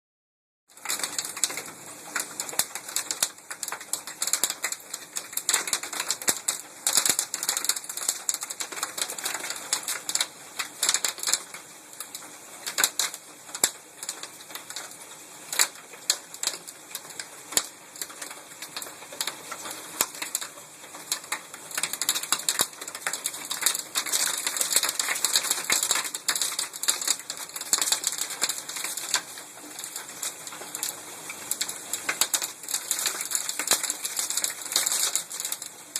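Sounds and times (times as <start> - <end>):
hailstones clattering on hard surface: 0.8 - 35.8.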